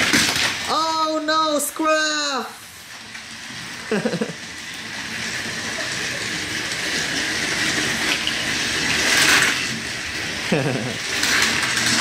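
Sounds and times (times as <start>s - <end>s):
toy train motors whirring: 0.0s - 12.0s
wheels rattling on plastic track: 0.0s - 12.0s.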